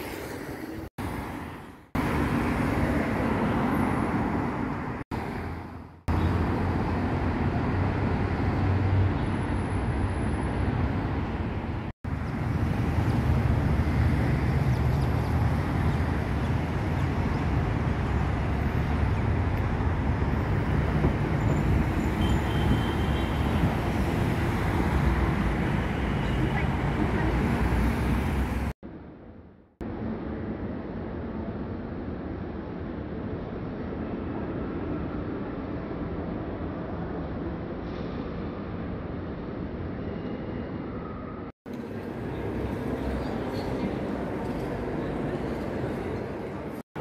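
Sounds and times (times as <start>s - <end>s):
city road traffic: 0.0s - 47.0s.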